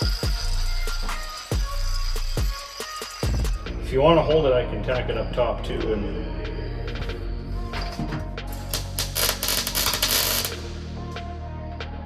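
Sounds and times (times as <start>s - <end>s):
music with deep kick drum beat: 0.0s - 12.0s.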